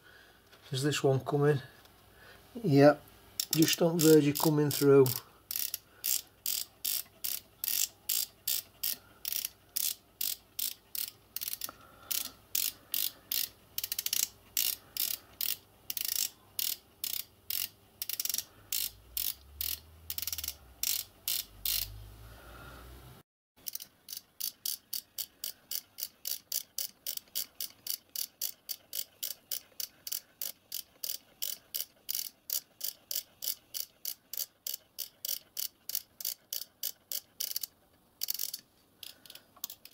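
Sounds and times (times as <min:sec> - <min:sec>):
ratchet clicking: 0:03.4 - 0:22.0, 0:23.6 - 0:39.9.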